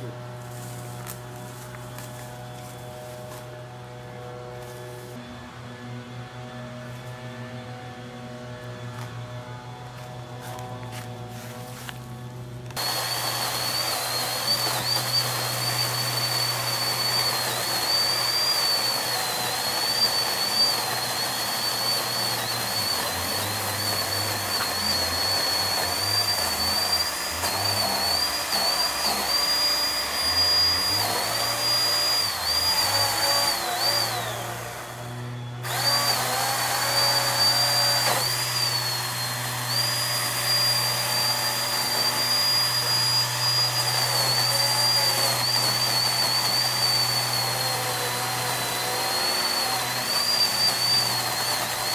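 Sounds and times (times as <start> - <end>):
electric pole saw whining: 0.0 - 51.9.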